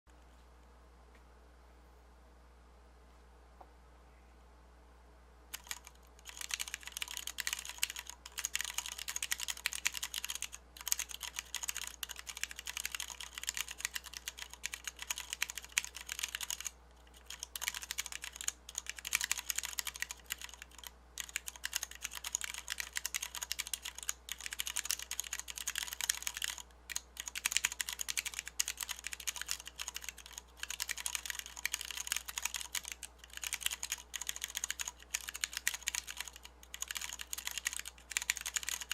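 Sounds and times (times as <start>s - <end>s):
mechanical keyboard typing: 5.5s - 38.9s.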